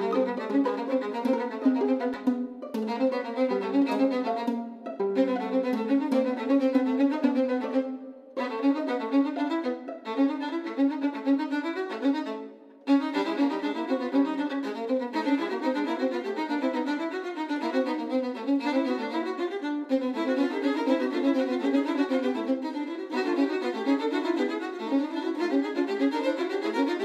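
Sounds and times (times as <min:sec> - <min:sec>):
fast solo violin: 0:00.0 - 0:27.0.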